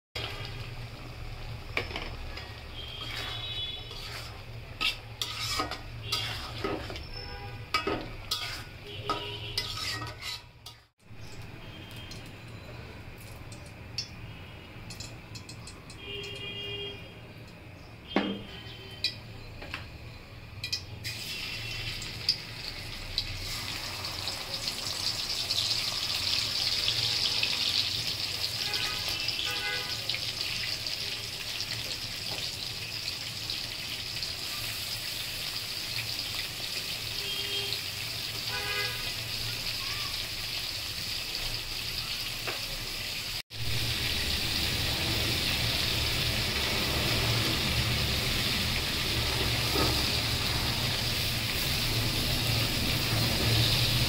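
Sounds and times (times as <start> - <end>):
prawns sizzling in hot oil: 0.2 - 16.6, 20.6 - 54.0.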